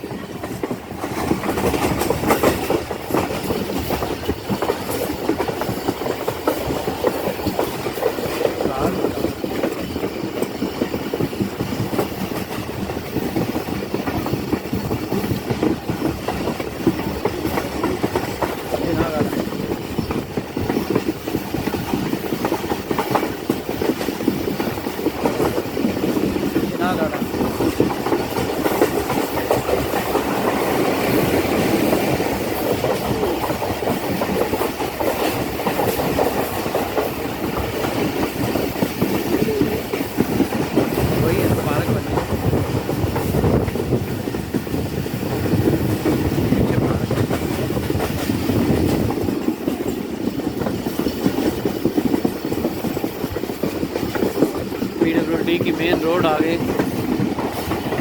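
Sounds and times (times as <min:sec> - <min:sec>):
train rattling and clicking: 0:00.0 - 0:58.0
train wheels rumbling on rails: 0:00.0 - 0:58.0.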